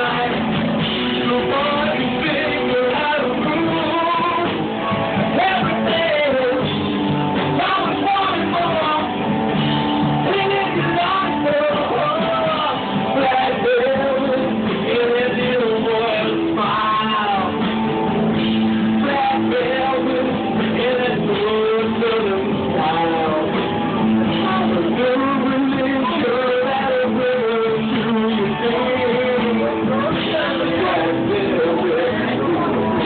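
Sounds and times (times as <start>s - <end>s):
loud rock music: 0.0s - 33.0s
person singing: 0.0s - 33.0s.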